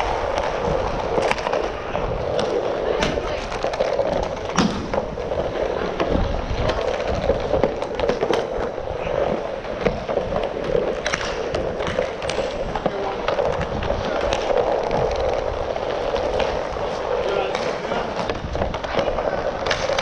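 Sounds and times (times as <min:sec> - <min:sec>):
skate wheels rolling on plastic floor: 0:00.0 - 0:20.0
sticks and puck clacking: 0:00.0 - 0:20.0.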